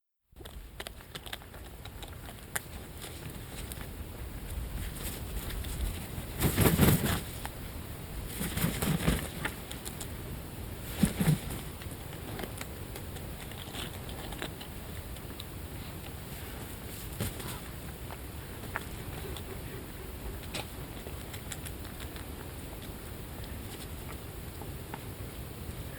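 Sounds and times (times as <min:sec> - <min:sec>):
birds fluttering and scuffling: 0:00.6 - 0:25.9
steady hiss: 0:02.7 - 0:25.9.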